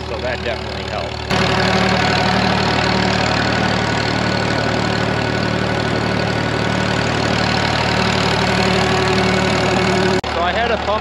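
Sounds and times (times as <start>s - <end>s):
tractor engine running steadily: 0.0s - 11.0s.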